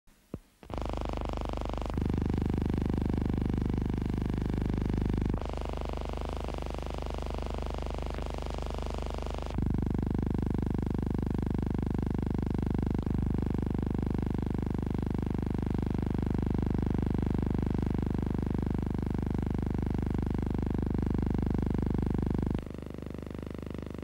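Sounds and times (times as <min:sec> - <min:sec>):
low hum and buzz: 0:00.2 - 0:24.0.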